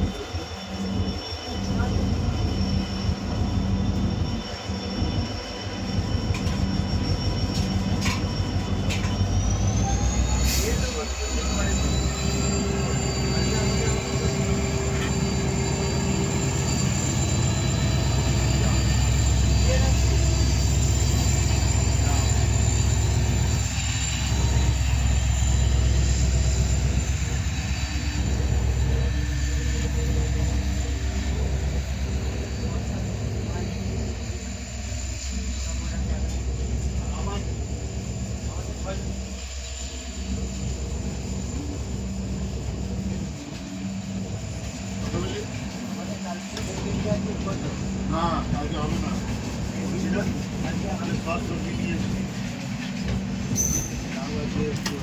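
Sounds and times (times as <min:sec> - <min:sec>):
diesel locomotive engine drone: 0:00.0 - 0:55.0
faint steady whine: 0:00.0 - 0:55.0.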